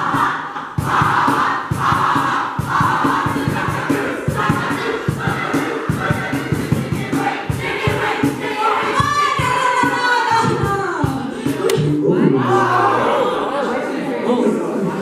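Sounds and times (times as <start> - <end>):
music with a steady beat: 0.0 - 12.1
young voices shouting and singing: 0.0 - 15.0.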